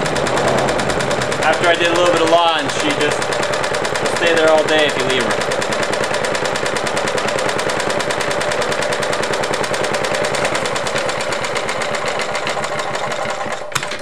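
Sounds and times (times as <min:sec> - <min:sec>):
lawn mower engine popping: 0:00.0 - 0:14.0.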